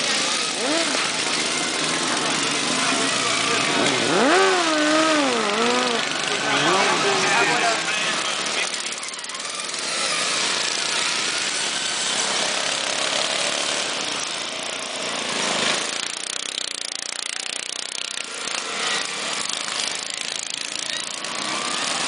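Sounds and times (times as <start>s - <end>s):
lawn mower engines revving: 0.0s - 22.0s.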